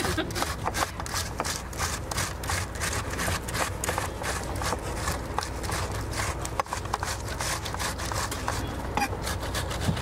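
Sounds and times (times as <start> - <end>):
low steady rumble: 0.0 - 10.0
tomato grating scraping strokes: 0.0 - 10.0.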